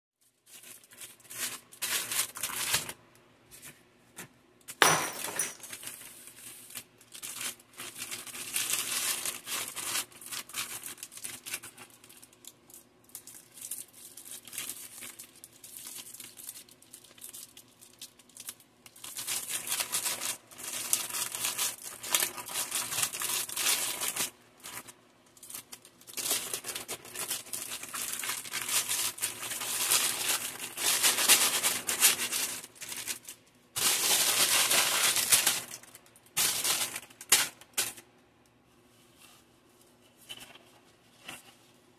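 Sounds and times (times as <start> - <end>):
plastic packaging crinkling: 0.2 - 3.7, 5.4 - 38.2.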